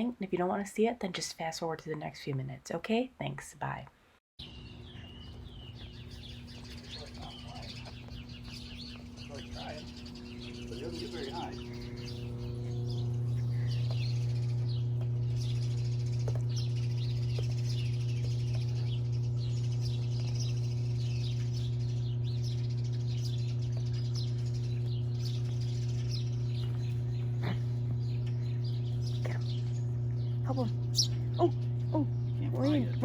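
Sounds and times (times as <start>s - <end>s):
birds chirping: 4.4s - 33.0s
loud steady low hum: 4.5s - 33.0s.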